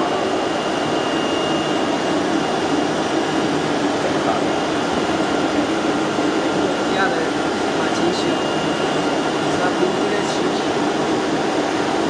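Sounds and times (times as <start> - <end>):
faint high whine: 0.0 - 5.4, 6.4 - 10.8
cutting machine running: 0.0 - 12.0
vacuum table air rush: 0.0 - 12.0.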